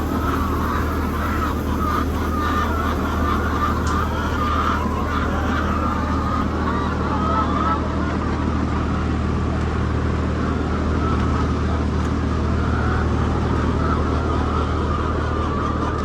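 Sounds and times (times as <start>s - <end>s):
low motor hum: 0.0s - 16.0s
poultry calling: 0.0s - 16.0s.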